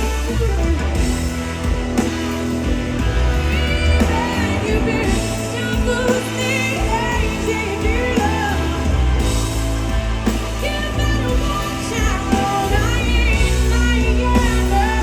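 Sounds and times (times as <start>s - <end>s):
bending lead guitar notes: 0.0s - 15.0s
blues-rock band playing: 0.0s - 15.0s.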